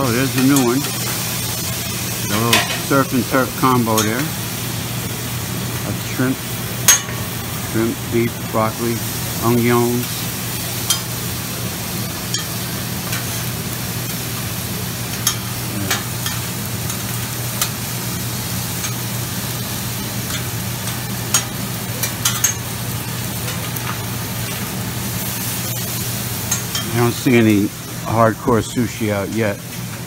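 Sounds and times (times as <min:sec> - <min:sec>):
food sizzling on a griddle: 0:00.0 - 0:30.0.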